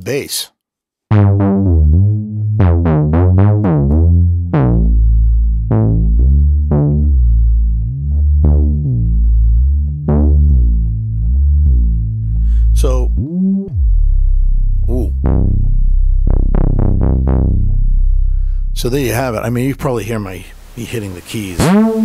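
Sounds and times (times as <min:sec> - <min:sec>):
deep synthesizer bass notes: 0:01.1 - 0:22.0.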